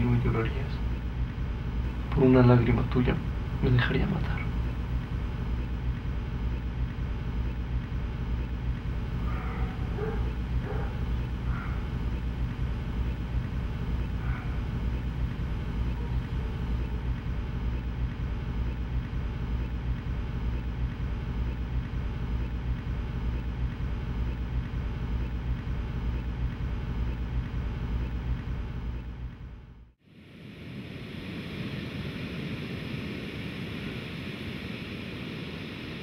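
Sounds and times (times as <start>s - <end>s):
low rumbling drone: 0.0s - 36.0s.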